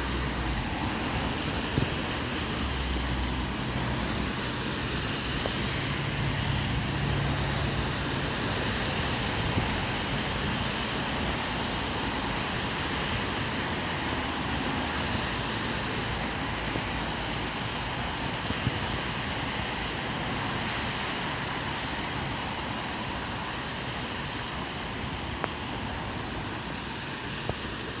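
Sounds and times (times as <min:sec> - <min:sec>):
tyres hissing on wet road: 0:00.0 - 0:28.0.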